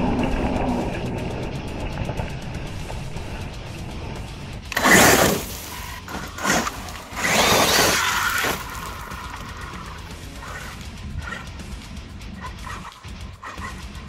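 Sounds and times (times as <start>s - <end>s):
electric motor whining: 0.0s - 14.0s
gravel crunching under tyres: 0.0s - 14.0s.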